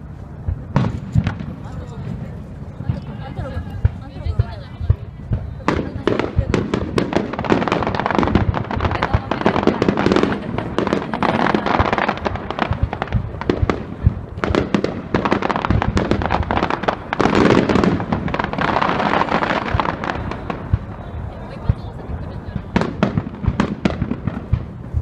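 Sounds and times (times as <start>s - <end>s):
fireworks bursting: 0.0s - 25.0s
fireworks crackling and bangs: 0.0s - 25.0s.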